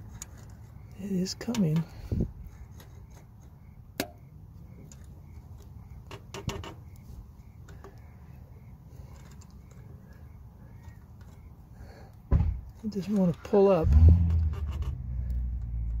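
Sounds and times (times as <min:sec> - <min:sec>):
metal clicks and creaks: 0:00.0 - 0:16.0.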